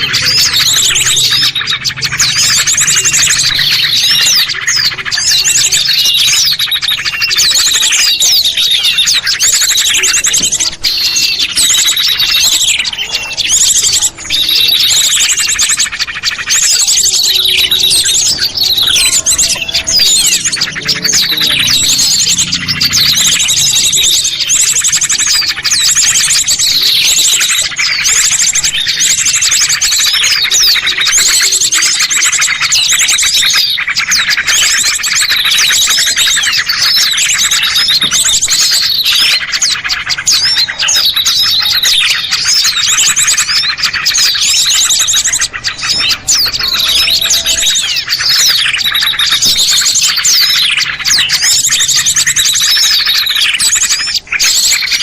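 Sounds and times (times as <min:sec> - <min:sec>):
small songbirds chirping and trilling: 0:00.0 - 0:55.0.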